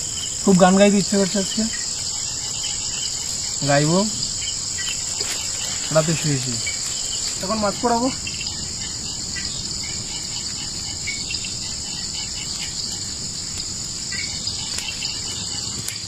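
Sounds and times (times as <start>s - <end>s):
insects droning: 0.0s - 16.0s
short cricket chirps: 0.0s - 16.0s.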